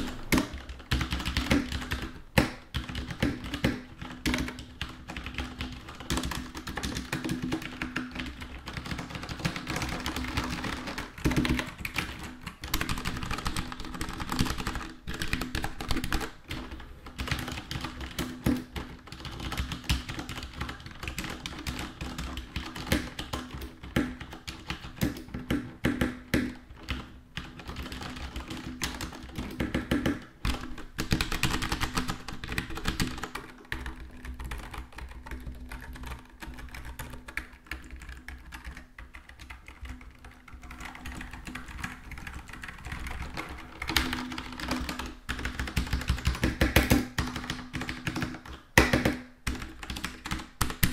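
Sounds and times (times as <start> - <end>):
mechanical keyboard typing: 0.0 - 50.9.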